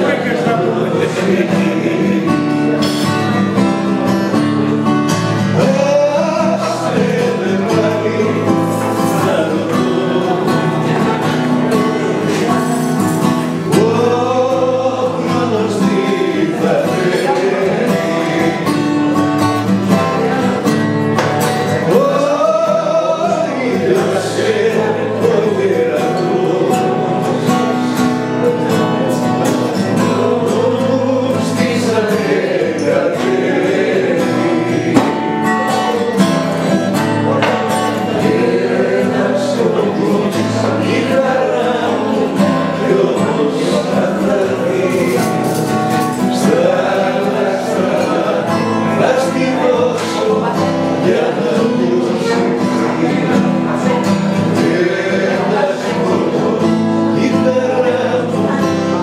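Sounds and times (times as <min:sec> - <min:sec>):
acoustic guitar: 0:00.0 - 0:59.0
man singing: 0:00.0 - 0:59.0
voices singing along: 0:00.0 - 0:59.0.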